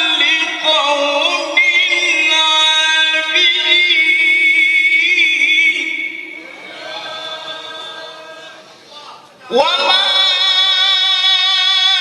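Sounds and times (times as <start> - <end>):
person reciting melodically: 0.0 - 12.0.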